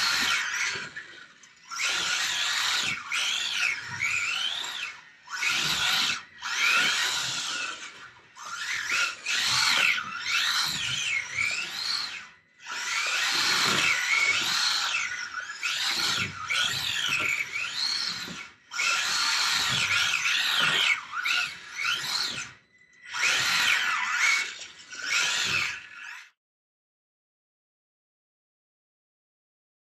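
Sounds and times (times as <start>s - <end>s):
toy car electric motor whining: 0.0s - 26.4s.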